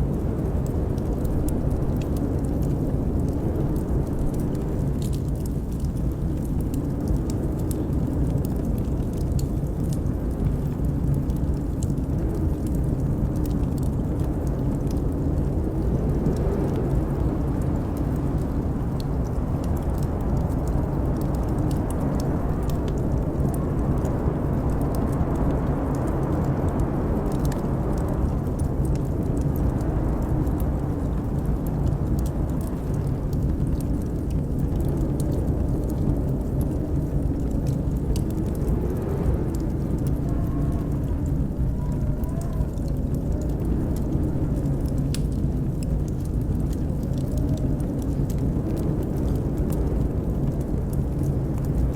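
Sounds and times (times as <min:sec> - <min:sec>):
blizzard wind: 0:00.0 - 0:51.9
wood fire crackling: 0:00.0 - 0:51.9.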